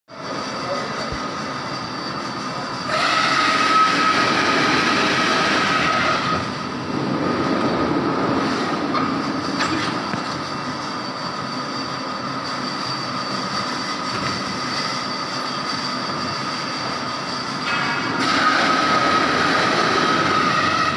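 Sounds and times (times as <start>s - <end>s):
foam-cutting machine hum and whine: 0.1s - 20.9s.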